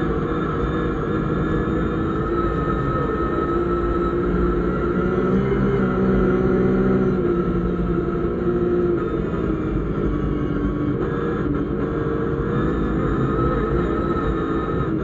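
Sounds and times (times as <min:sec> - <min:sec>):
rally car engine running hard: 0:00.0 - 0:15.0.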